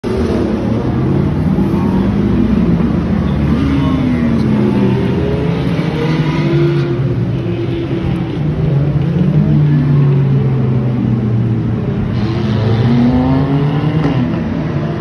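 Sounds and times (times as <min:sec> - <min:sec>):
cars driving past: 0:00.1 - 0:15.0.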